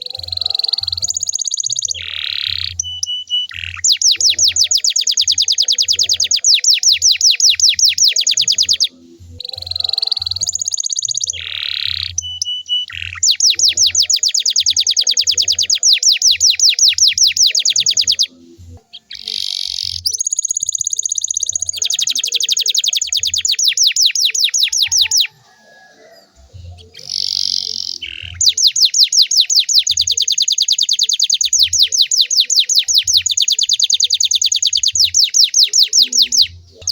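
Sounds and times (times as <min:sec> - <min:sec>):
canary singing trills: 0:00.0 - 0:36.9.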